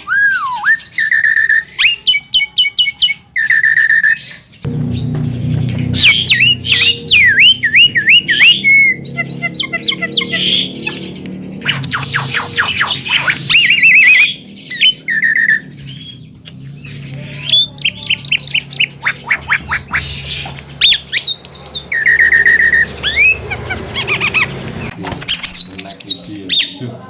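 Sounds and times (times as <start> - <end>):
harsh bird squawks: 0.0 - 26.8
myna chattering song: 4.7 - 27.0.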